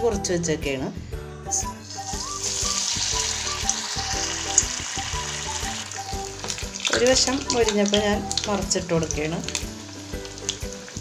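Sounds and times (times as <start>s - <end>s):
oil sizzling in deep-frying: 1.8s - 11.0s.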